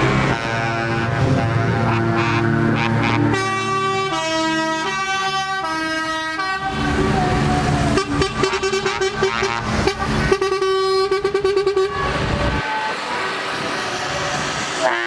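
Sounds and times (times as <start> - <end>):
trucks passing: 0.0 - 15.0
truck horn blasts: 0.1 - 7.1, 7.9 - 12.9, 14.8 - 15.0.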